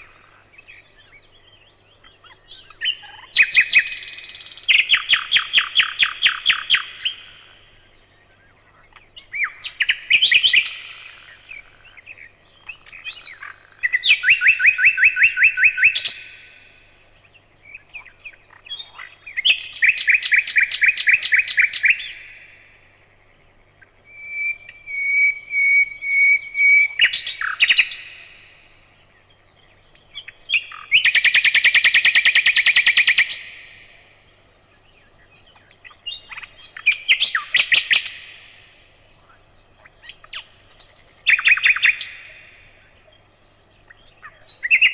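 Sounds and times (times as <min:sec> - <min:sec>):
nightingale singing: 0:00.0 - 0:44.9.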